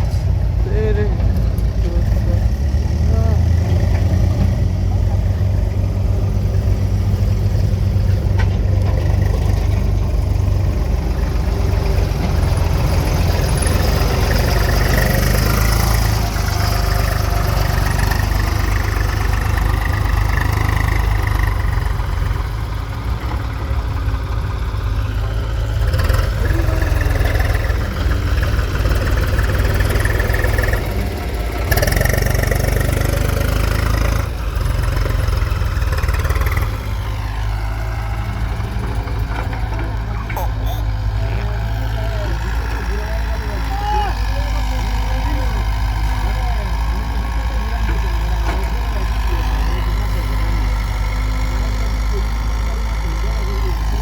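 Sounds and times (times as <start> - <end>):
backhoe loader working: 0.0 - 54.0
tractor engine idling: 0.0 - 54.0.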